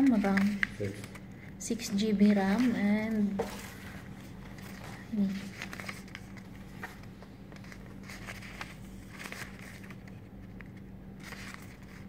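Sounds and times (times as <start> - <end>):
booklet pages rustling: 0.0 - 12.0
faint low hum: 0.0 - 12.0.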